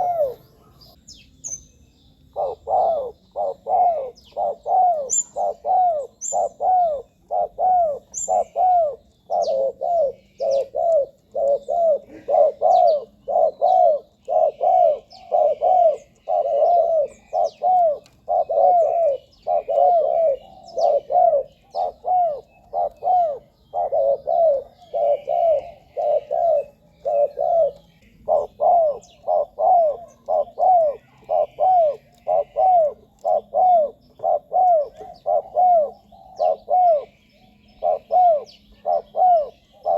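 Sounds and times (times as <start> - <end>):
dove cooing: 0.0 - 1.0, 2.3 - 39.9
small birds chirping: 0.0 - 39.9.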